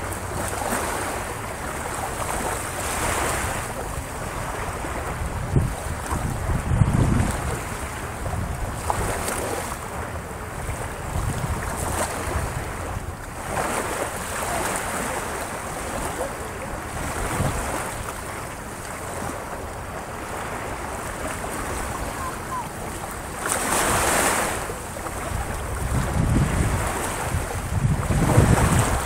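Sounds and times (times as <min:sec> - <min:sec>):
sea waves breaking on beach: 0:00.0 - 0:29.0
wind buffeting microphone: 0:00.0 - 0:29.0.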